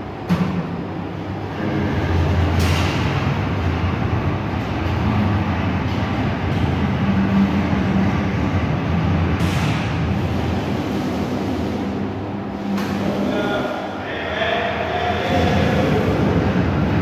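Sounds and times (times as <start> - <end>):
low mechanical rumble with hum: 0.0 - 17.0.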